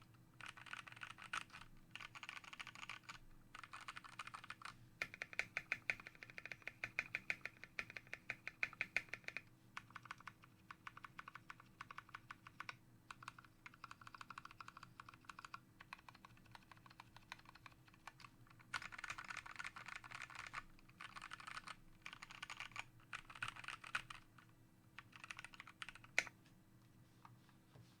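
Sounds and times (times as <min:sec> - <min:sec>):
typing on mechanical keyboard: 0:00.4 - 0:26.3.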